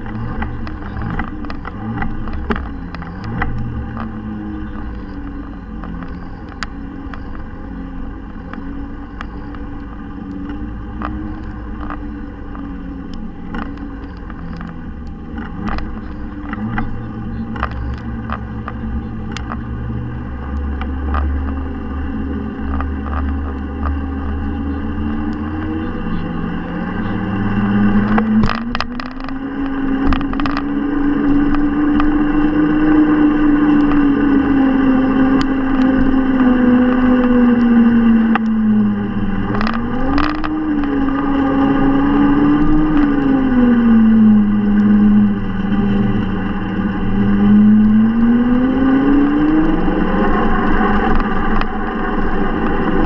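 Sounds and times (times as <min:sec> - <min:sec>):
low rumble: 0:00.0 - 0:53.0
sharp clicks and rattles: 0:00.0 - 0:53.0.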